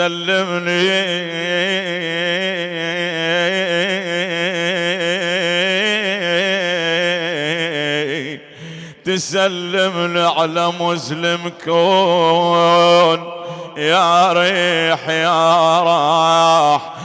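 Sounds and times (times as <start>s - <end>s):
man singing a wavering lament: 0.0s - 17.0s.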